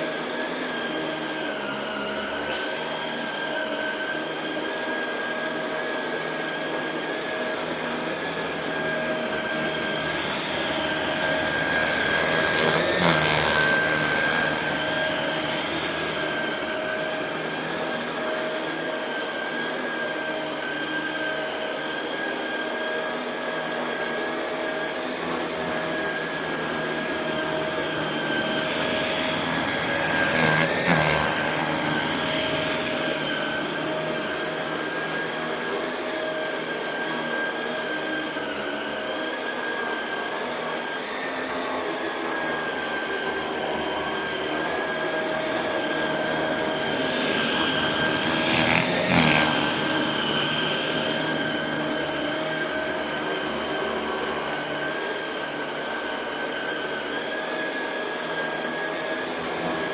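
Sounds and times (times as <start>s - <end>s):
vacuum cleaner running on carpet: 0.0s - 59.9s.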